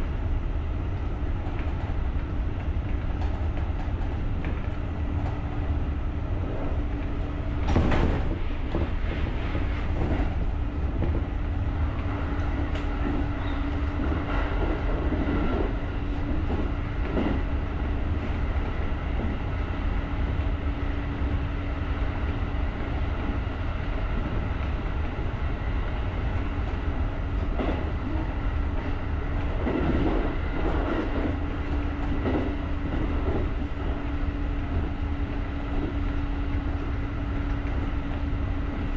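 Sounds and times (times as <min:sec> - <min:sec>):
train hum: 0:00.0 - 0:38.9
train rumbling along track: 0:00.0 - 0:38.9.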